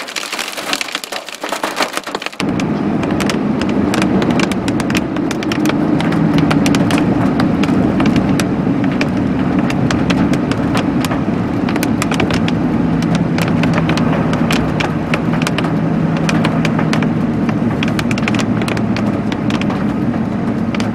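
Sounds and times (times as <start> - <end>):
ice clicking and cracking: 0.0 - 20.9
vehicle engine and road noise: 0.0 - 20.9.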